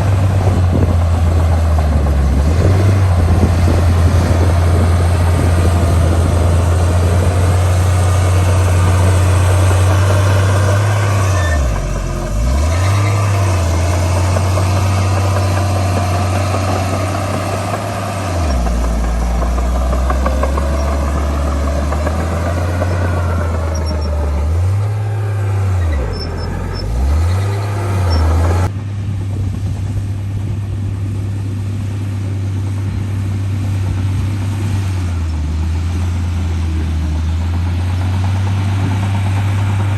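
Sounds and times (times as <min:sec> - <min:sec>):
heavy diesel engine working: 0:00.0 - 0:39.9.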